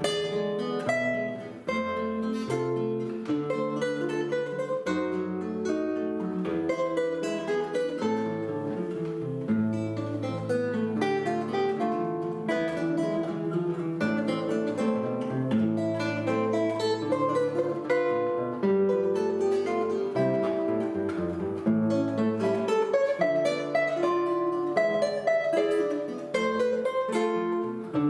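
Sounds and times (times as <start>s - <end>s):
plucked string duet: 0.0s - 28.0s.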